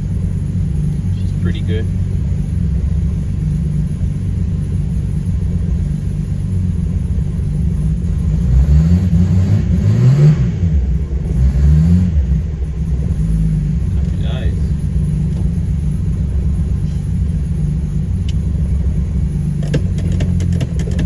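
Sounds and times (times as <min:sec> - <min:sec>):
car engine idling: 0:00.0 - 0:21.0
engine revving: 0:00.0 - 0:21.0.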